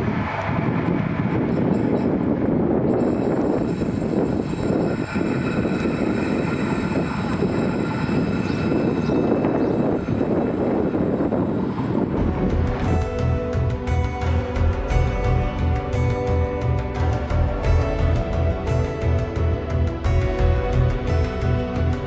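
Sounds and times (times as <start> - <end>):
high thin whine: 0.0 - 22.0
train rumbling past: 0.0 - 22.0.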